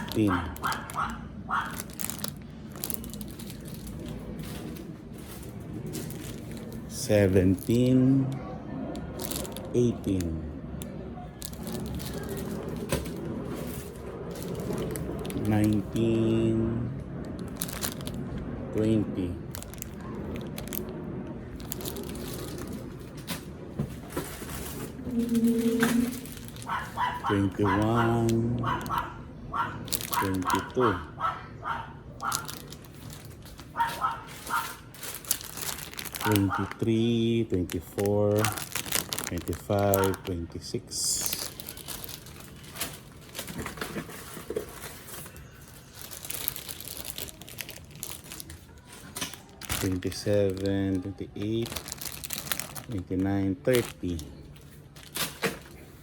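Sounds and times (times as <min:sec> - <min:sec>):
bags rustling: 0:00.0 - 0:08.3, 0:08.9 - 0:10.4, 0:11.3 - 0:16.5, 0:17.3 - 0:29.1, 0:29.8 - 0:31.1, 0:32.2 - 0:56.0.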